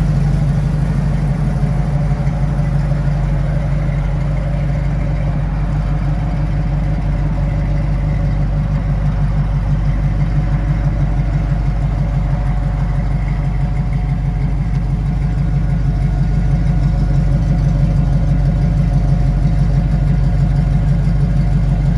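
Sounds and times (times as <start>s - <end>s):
vwight engine exhaust note: 0.0s - 21.9s.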